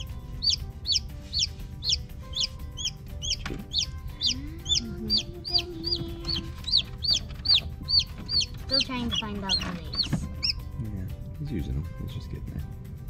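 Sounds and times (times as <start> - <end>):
chicks peeping: 0.0 - 10.7.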